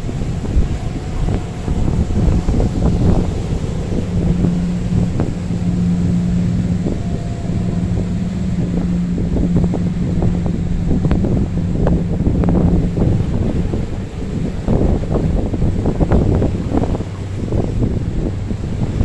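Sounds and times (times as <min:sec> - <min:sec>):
boat engines droning: 0:00.0 - 0:19.0
waves crashing: 0:00.0 - 0:19.0
wind buffeting microphone: 0:00.0 - 0:19.0.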